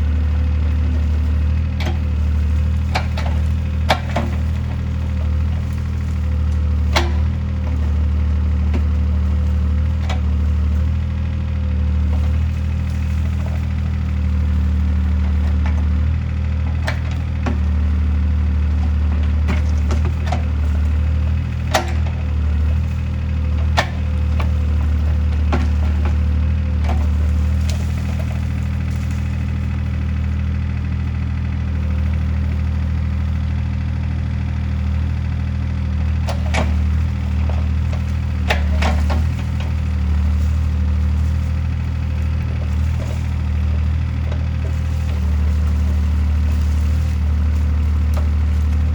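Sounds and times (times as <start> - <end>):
wood splintering and cracking: 0.0 - 33.4, 34.1 - 48.9
excavator diesel engine running: 0.0 - 48.9.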